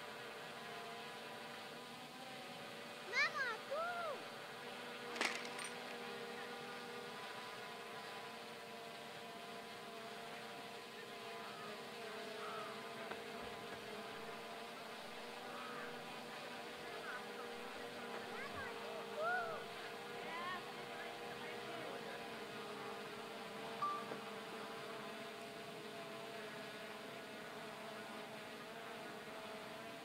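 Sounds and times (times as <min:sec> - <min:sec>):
motor humming: 0:00.0 - 0:30.0
faint distant voices: 0:05.5 - 0:30.0.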